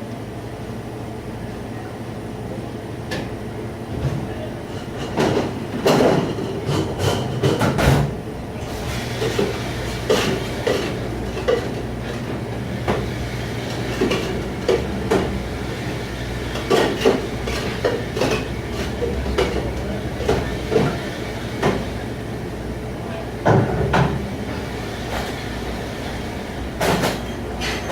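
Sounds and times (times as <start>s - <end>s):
low machine hum: 0.0s - 27.9s
dishes and racks clattering: 4.0s - 22.1s, 23.4s - 27.9s.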